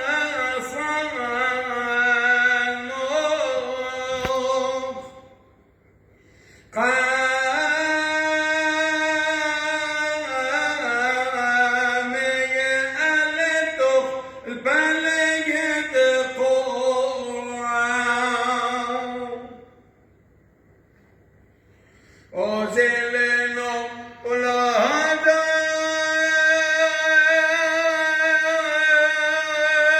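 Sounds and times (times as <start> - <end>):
man chanting a hymn: 0.0 - 5.4, 6.7 - 19.7, 22.2 - 29.9.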